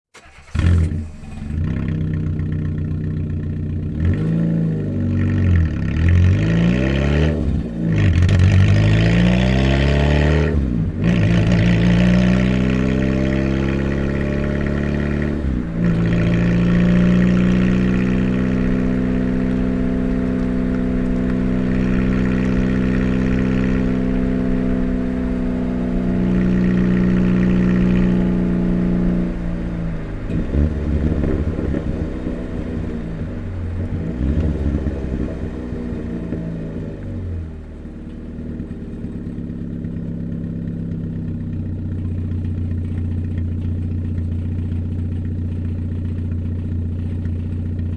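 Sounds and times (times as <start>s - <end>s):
car engine revving: 0.1s - 47.9s.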